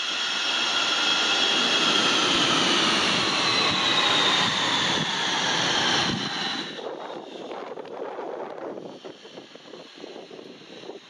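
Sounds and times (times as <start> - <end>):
jet engines idling whine: 0.0 - 11.0.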